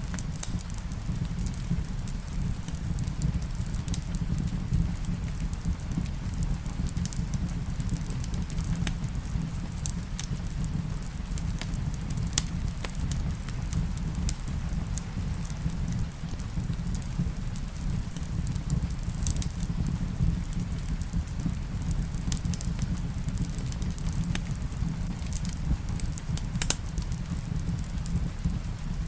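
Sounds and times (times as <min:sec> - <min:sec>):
rain hiss: 0:00.0 - 0:29.0
wood fire crackling and popping: 0:00.0 - 0:29.0.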